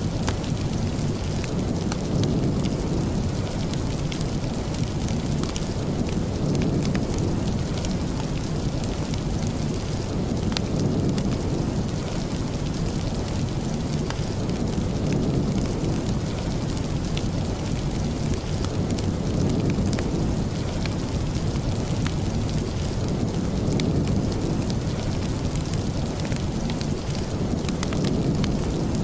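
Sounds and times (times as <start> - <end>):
steady rain: 0.0 - 29.0.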